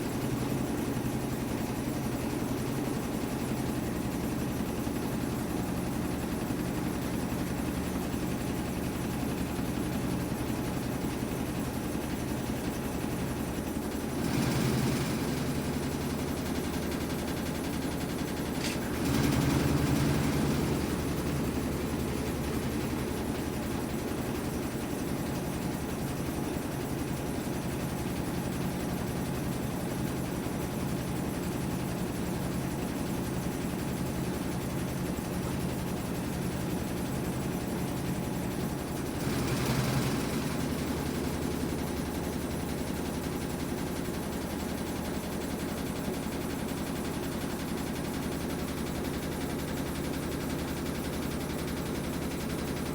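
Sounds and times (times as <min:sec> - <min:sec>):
washing machine motor hum: 0:00.0 - 0:52.9.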